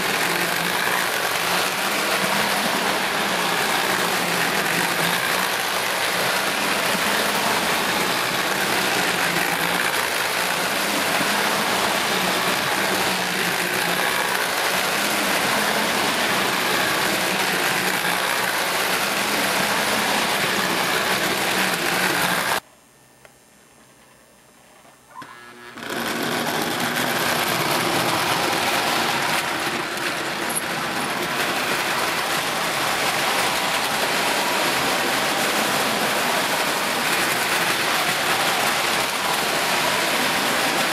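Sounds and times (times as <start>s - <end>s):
toy trains whirring on track: 0.0s - 22.6s, 25.2s - 40.9s.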